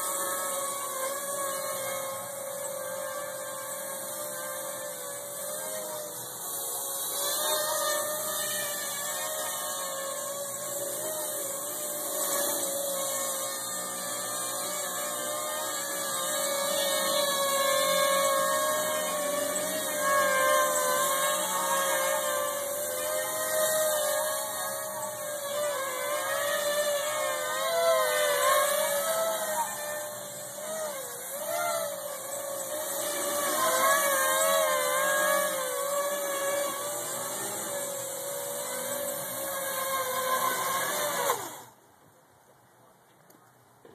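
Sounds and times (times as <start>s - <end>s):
drone motors whining: 0.0s - 41.8s.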